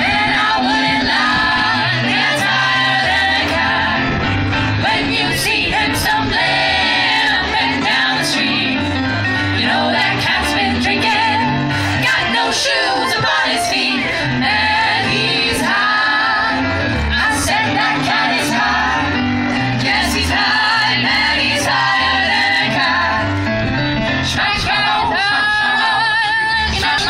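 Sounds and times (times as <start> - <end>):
low bass notes: 0.0 - 27.0
vocal ensemble singing in harmony: 0.0 - 27.0.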